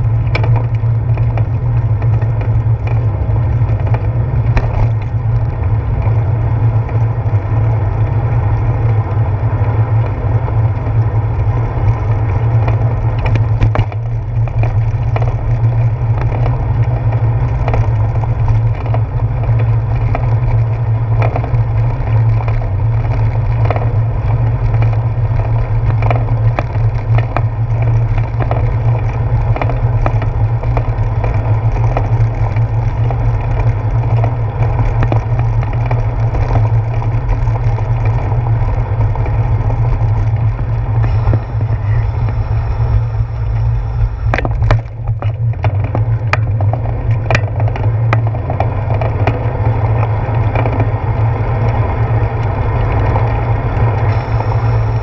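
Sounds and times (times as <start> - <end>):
road vibration rumble: 0.0 - 55.0
wind: 0.0 - 55.0.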